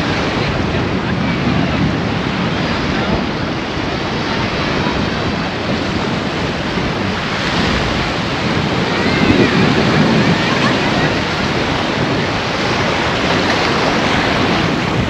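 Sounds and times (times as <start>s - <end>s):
waves washing onto sandy beach: 0.0s - 15.0s
wind buffeting microphone: 0.0s - 15.0s.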